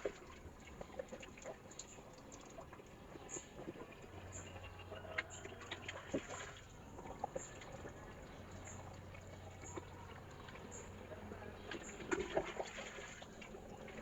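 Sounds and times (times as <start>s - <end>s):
water trickling onto soil: 0.0s - 14.0s.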